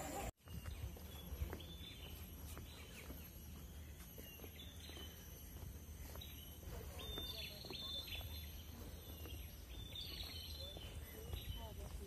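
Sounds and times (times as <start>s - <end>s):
high bird chirps: 0.1s - 12.0s.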